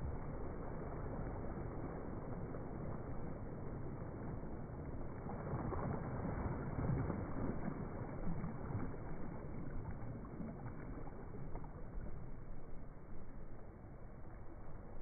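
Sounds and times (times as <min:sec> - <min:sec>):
gentle waves lapping on sand: 0:00.0 - 0:15.0.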